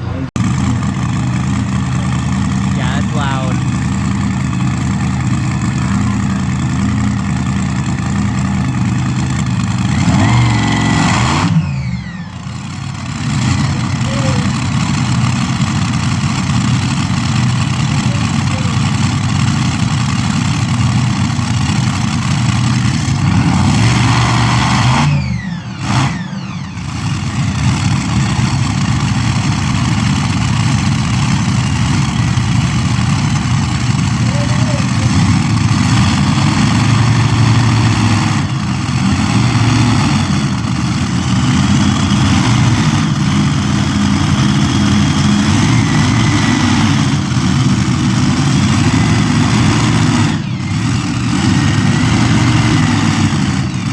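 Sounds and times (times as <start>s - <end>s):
vehicle engine running hard: 0.0s - 53.9s.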